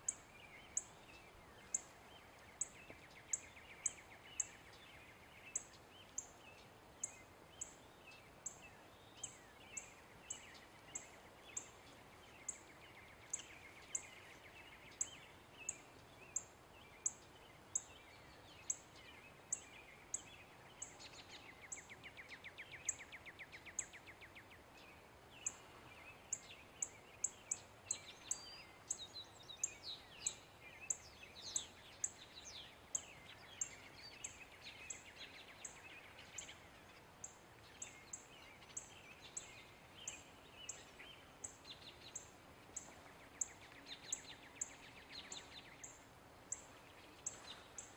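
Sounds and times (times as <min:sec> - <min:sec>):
birds chirping faintly: 0:00.0 - 0:47.9.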